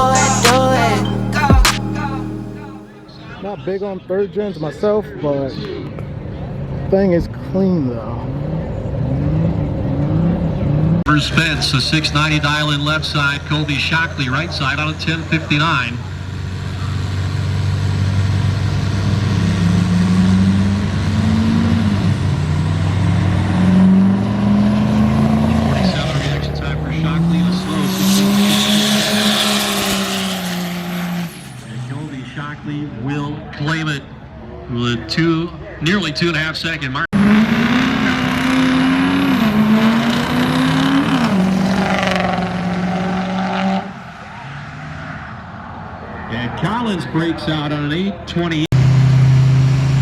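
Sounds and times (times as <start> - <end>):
diesel truck engines accelerating: 0.0 - 50.0.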